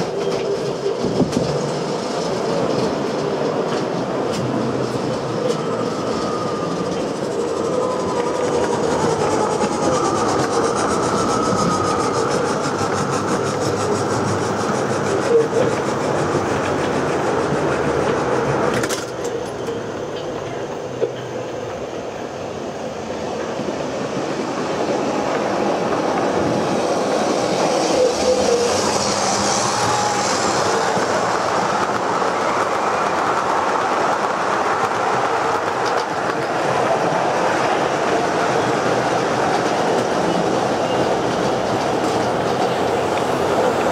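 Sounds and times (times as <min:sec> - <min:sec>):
model trains running on rails: 0:00.0 - 0:43.9.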